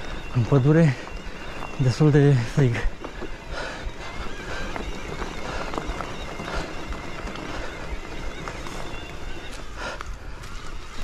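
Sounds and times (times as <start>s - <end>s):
bike clacks and rattles: 0.0s - 11.0s
bike tyres crunching on gravel: 0.0s - 11.0s
wind buffeting microphone: 0.0s - 11.0s.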